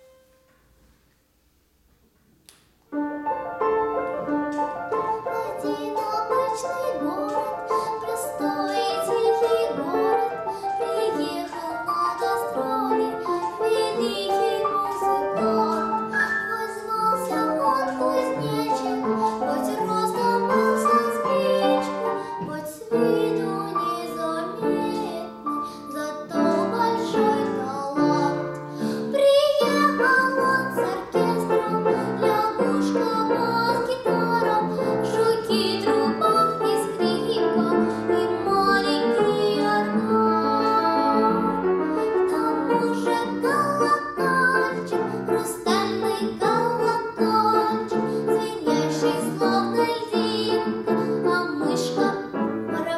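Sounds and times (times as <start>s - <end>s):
instrumental accompaniment: 2.8s - 52.9s
girl singing classical style: 2.9s - 52.9s.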